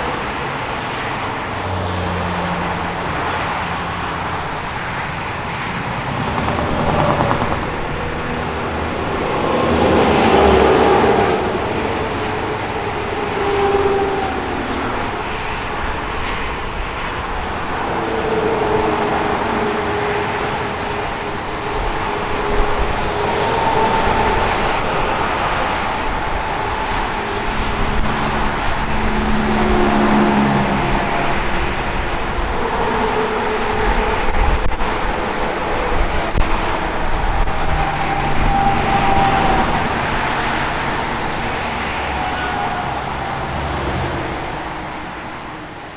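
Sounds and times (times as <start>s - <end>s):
highway traffic rush: 0.0s - 45.9s
vehicles passing: 0.0s - 45.9s.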